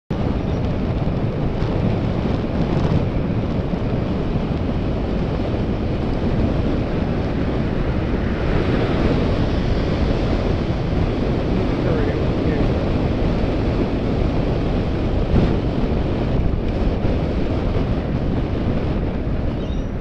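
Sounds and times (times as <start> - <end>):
wind rushing over microphone: 0.1 - 20.0.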